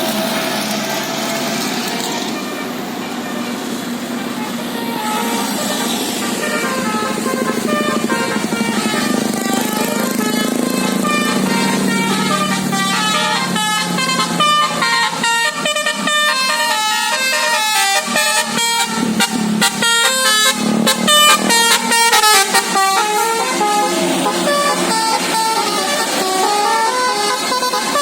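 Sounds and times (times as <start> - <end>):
musical air horn melody: 0.3 - 28.0.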